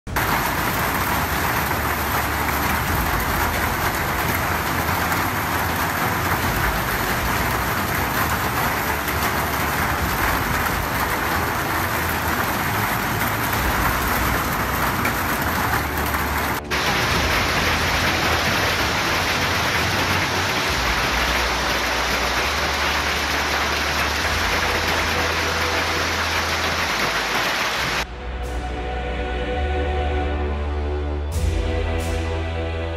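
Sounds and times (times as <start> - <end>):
hail falling on pavement: 0.1 - 28.0.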